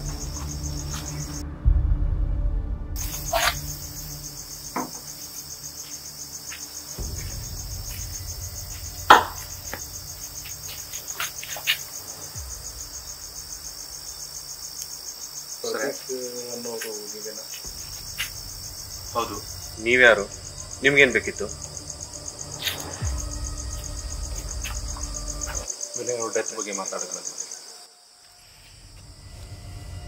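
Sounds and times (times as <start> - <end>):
crickets chirping: 0.0 - 1.9, 2.8 - 30.0.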